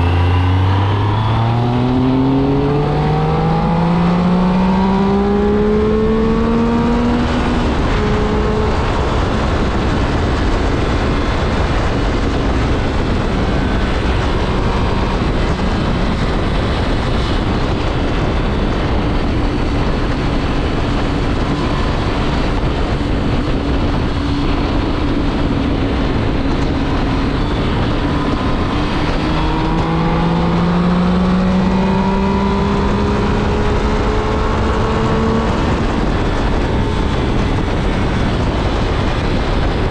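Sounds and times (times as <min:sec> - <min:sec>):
heavy wind rush: 0:00.0 - 0:39.9
motorcycle engine under way: 0:00.0 - 0:39.9.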